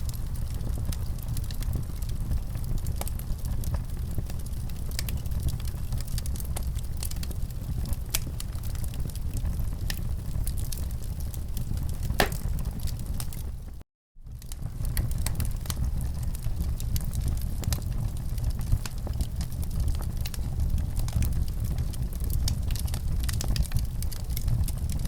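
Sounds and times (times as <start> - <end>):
wood fire crackling: 0.0 - 13.6, 14.4 - 25.0.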